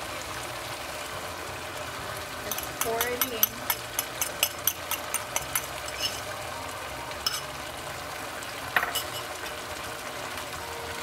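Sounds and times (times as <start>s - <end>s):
pan sizzling: 0.0s - 11.0s.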